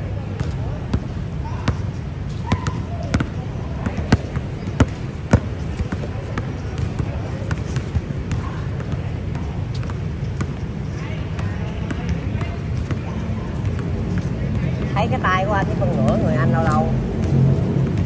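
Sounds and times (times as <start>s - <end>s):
basketball bouncing on hard court: 2.5s - 10.6s, 11.3s - 18.0s.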